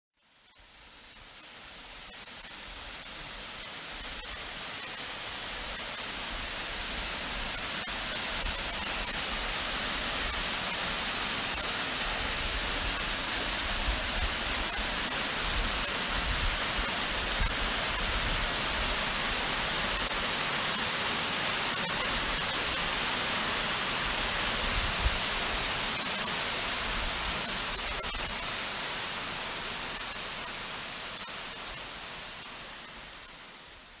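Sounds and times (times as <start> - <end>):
falling water rushing: 0.4 - 34.0.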